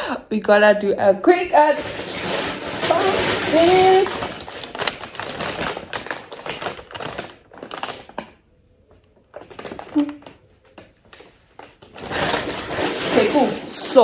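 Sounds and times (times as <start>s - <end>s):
plastic bag crackling and rustling: 1.4s - 14.0s.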